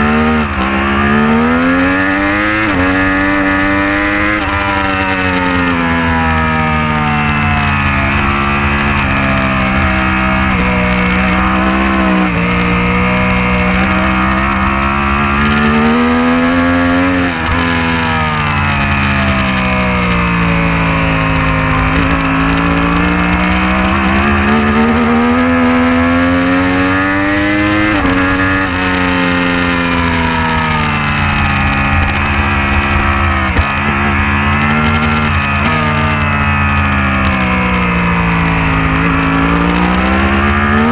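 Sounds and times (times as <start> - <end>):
racing motorcycle engine: 0.0 - 40.9.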